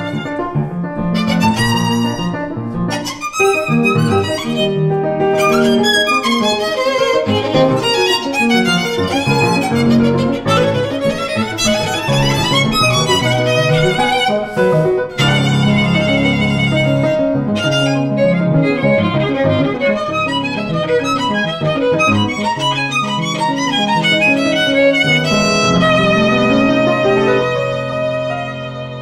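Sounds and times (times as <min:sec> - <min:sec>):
piano: 0:00.0 - 0:29.0
violin: 0:00.0 - 0:29.0.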